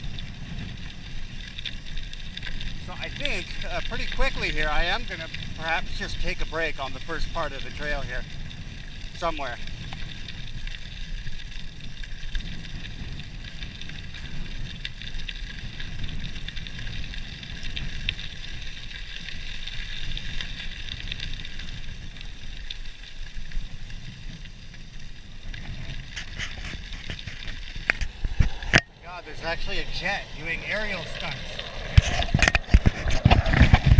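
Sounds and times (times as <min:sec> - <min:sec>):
bike tyres crackling over gravel: 0:00.0 - 0:33.9
wind rumbling on microphone: 0:00.0 - 0:33.9.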